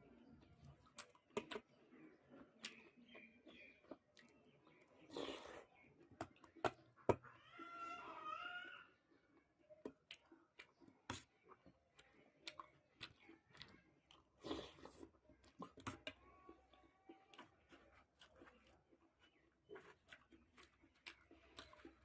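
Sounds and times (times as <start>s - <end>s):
quiet chewing: 0.0s - 22.0s.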